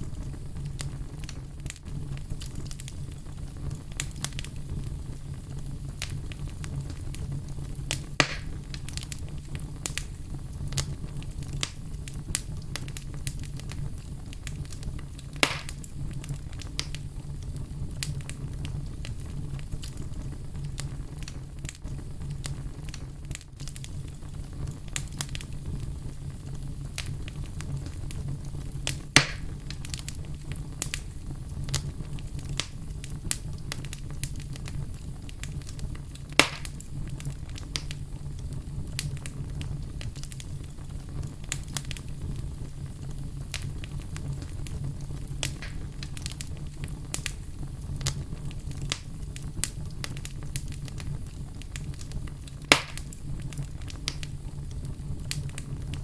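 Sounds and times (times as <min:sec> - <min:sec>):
fire crackling: 0:00.0 - 0:56.0
loud fire pops: 0:00.0 - 0:56.0
low steady rumble: 0:00.0 - 0:56.0.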